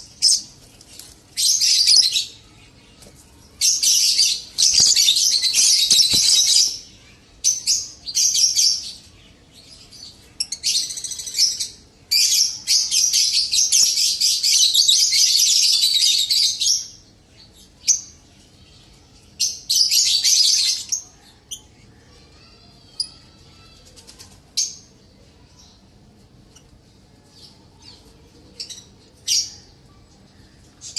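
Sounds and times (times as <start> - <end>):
lovebirds chattering: 0.0 - 24.8.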